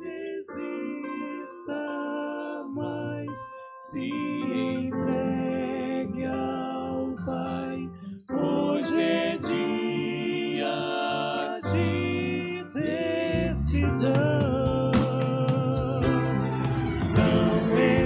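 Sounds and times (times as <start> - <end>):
vocal quartet singing gospel: 0.0 - 18.0.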